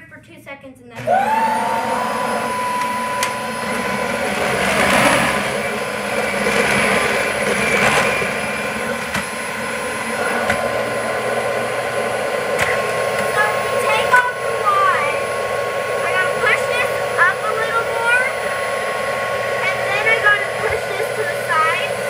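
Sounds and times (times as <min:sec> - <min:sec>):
vacuum cleaner running: 0:01.0 - 0:22.0.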